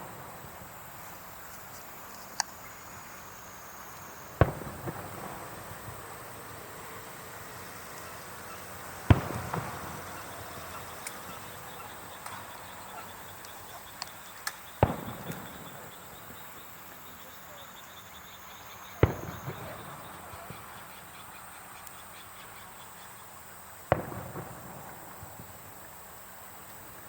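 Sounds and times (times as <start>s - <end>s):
fireworks bangs: 0.0s - 17.8s, 18.7s - 21.7s, 23.8s - 27.0s
fireworks pops and crackles: 0.0s - 17.8s, 18.8s - 27.0s.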